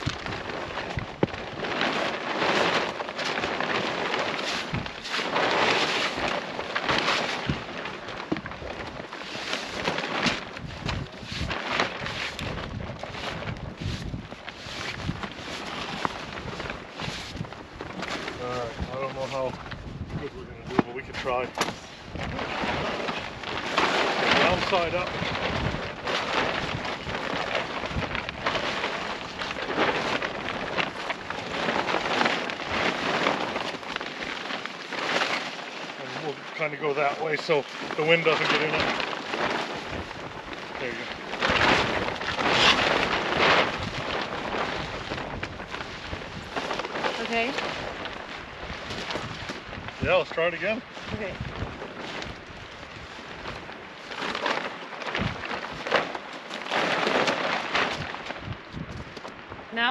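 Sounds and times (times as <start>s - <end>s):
plastic tarp crinkling and rustling: 0.0s - 59.9s.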